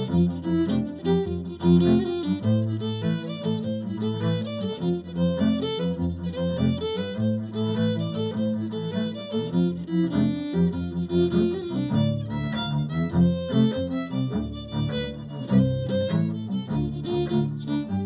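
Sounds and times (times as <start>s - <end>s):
fiddle playing a jig: 0.0s - 18.0s.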